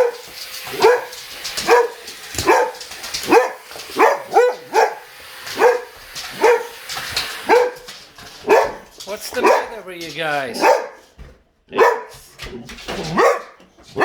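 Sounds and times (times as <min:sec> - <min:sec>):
dog barking: 0:00.0 - 0:09.9, 0:10.5 - 0:12.3, 0:13.0 - 0:14.0.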